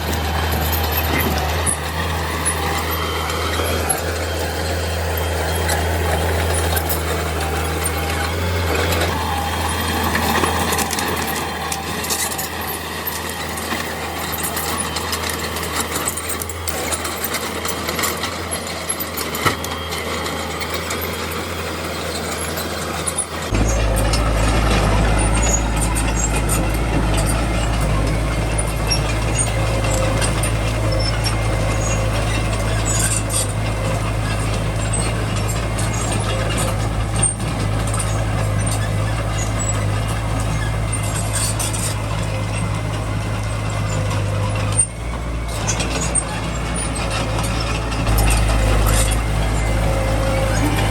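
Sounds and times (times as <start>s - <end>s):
bulldozer diesel engine: 0.0s - 50.9s.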